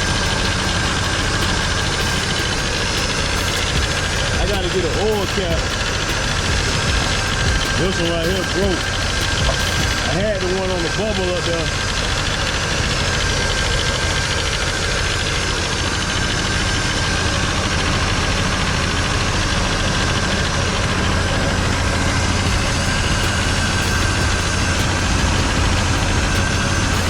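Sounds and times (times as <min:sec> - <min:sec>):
thin steady whine: 0:00.0 - 0:27.0
truck engine idling: 0:00.0 - 0:27.0.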